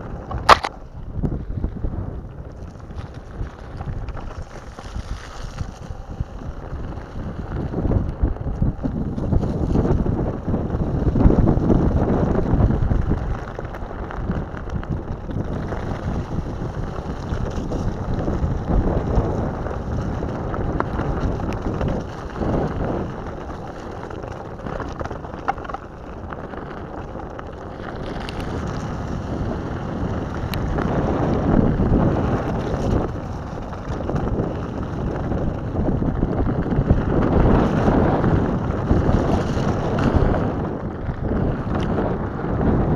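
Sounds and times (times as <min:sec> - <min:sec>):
skateboard tyres rumbling over gravel: 0:00.0 - 0:42.9
wind buffeting microphone: 0:00.0 - 0:42.9.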